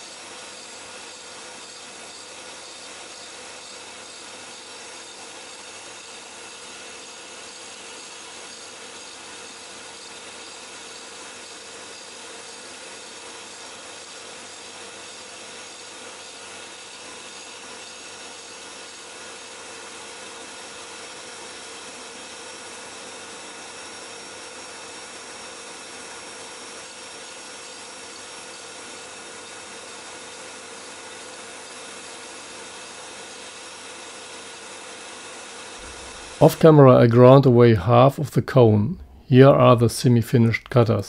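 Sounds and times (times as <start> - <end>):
grinding wheel grinding steel: 0.0 - 36.8.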